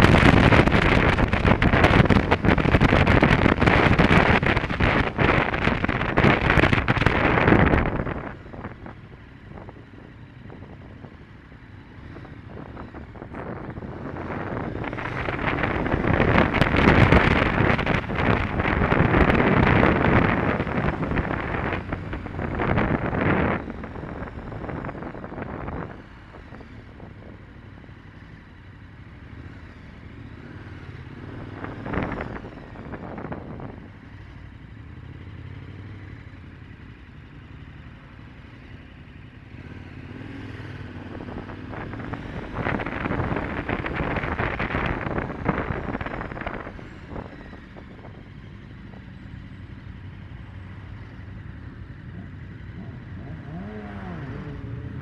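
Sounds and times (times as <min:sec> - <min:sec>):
wind noise on microphone: 0:00.0 - 0:27.7, 0:30.5 - 0:34.2, 0:39.6 - 0:55.0
motorcycle engine running: 0:00.0 - 0:55.0.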